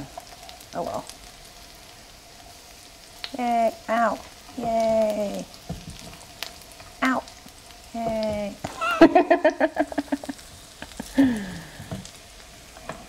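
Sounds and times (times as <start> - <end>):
fritters sizzling in oil: 0.0 - 13.0.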